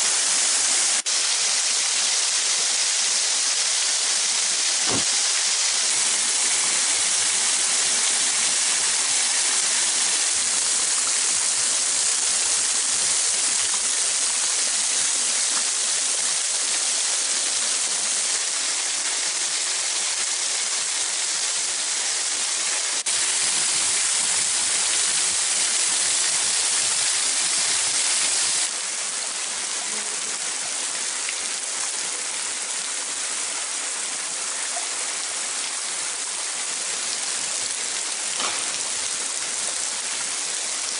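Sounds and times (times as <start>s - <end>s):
waterfall splashing over rock: 0.0s - 40.9s.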